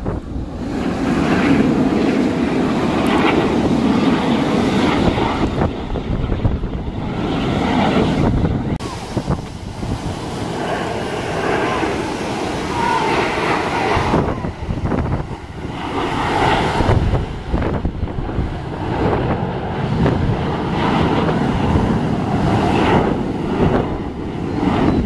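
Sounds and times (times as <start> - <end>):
jet engines rumbling: 0.0 - 25.0
wind buffeting microphone: 0.0 - 25.0.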